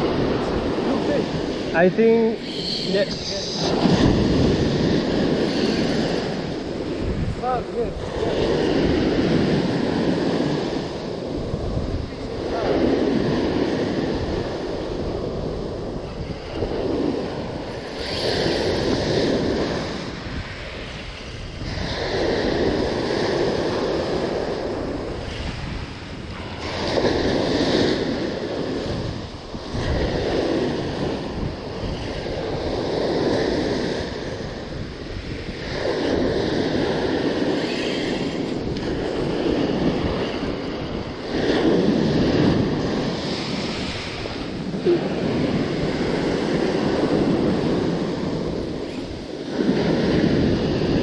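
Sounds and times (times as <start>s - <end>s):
surf breaking on a beach: 0.0s - 51.0s
wind on the microphone: 0.0s - 51.0s.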